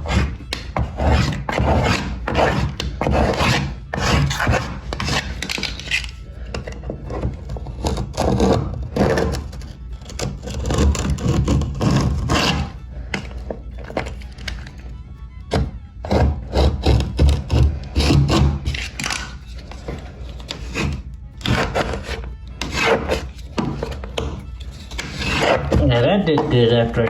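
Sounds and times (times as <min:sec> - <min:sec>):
metal blade scraping caulk: 0:00.0 - 0:14.9, 0:15.5 - 0:27.0.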